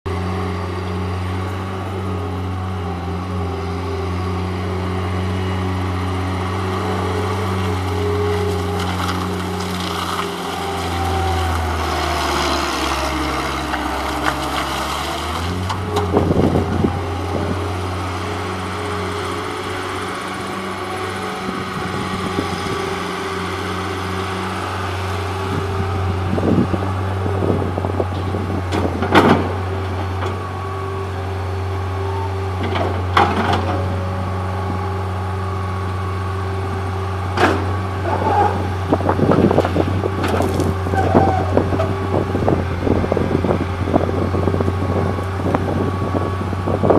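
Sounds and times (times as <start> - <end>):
diesel engine running: 0.1 - 46.9.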